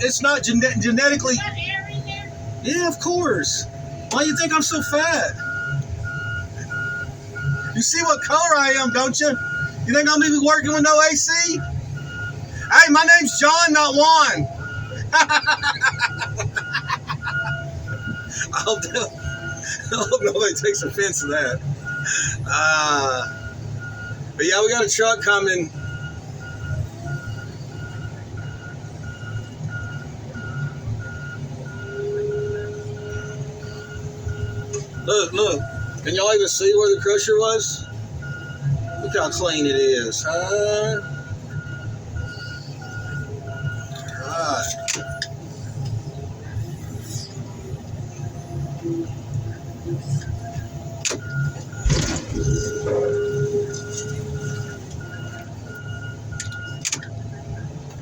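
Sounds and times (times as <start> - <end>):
diesel engine running: 0.0 - 58.0
reversing alarm beeping: 1.9 - 57.8.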